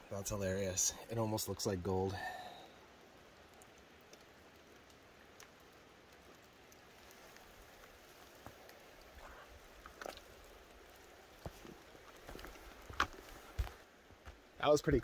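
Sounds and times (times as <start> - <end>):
raindrops ticking: 0.0 - 14.2
quiet steady hiss: 0.0 - 15.0.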